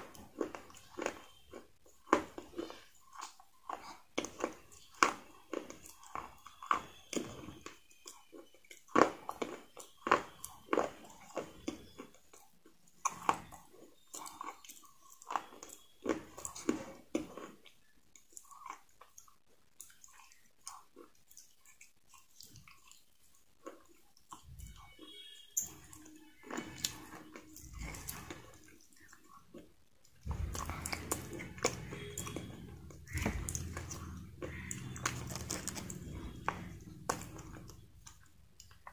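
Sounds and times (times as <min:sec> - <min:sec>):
person chewing crispy fried chicken: 0:00.0 - 0:38.9.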